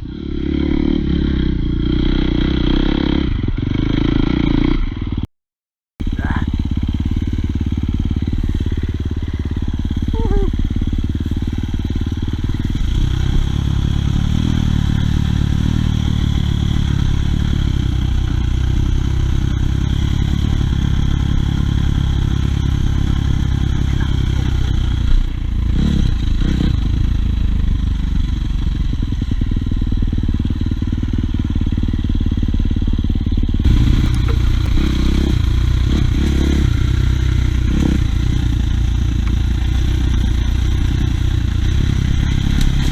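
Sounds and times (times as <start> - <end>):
dirt bike engine revving: 0.0 - 5.2, 6.0 - 42.9.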